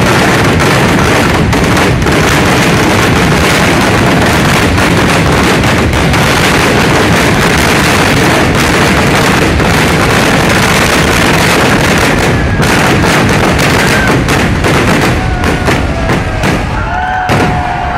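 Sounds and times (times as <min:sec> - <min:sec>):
fireworks explosions: 0:00.0 - 0:17.9
whistling fireworks: 0:00.0 - 0:17.9.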